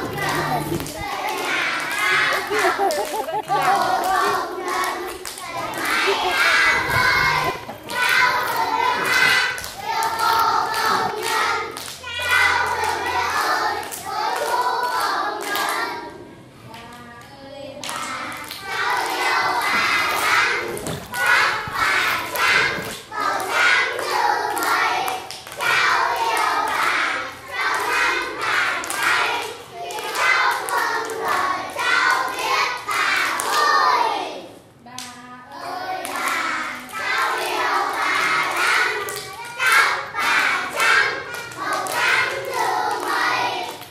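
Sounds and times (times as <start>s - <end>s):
children singing: 0.0s - 16.2s, 17.8s - 34.4s, 35.6s - 43.9s.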